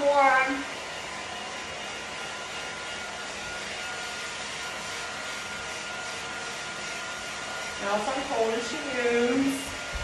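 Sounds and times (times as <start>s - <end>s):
hair dryer blowing air: 0.0s - 10.0s.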